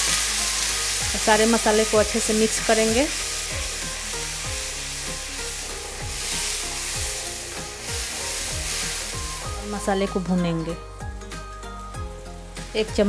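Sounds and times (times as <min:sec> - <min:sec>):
background music with beat: 0:00.0 - 0:13.0
paste sizzling in oil: 0:00.0 - 0:13.0.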